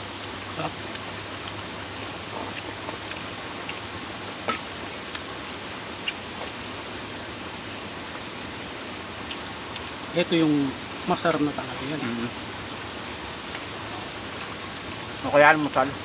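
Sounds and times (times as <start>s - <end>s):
people chewing food: 0.0s - 10.1s, 11.2s - 16.0s
low hum: 0.0s - 15.3s
background hiss: 0.0s - 16.0s.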